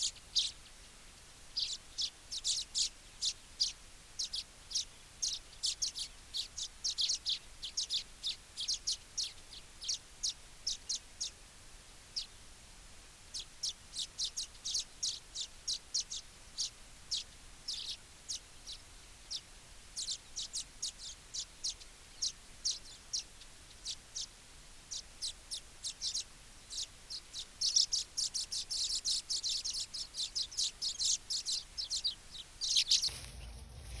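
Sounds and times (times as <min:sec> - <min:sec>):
birds chirping: 0:00.0 - 0:11.3, 0:13.3 - 0:34.0.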